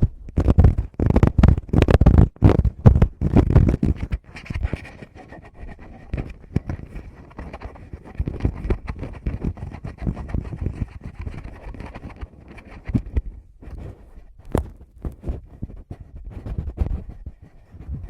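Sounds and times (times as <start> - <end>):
fingers tapping on microphones: 0.0 - 18.0.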